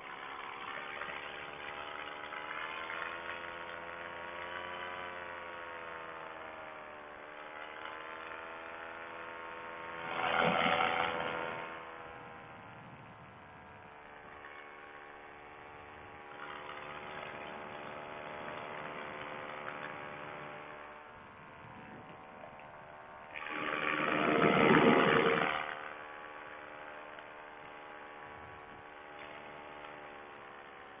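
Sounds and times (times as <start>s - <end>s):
paramotor engine and propeller: 0.0s - 31.0s.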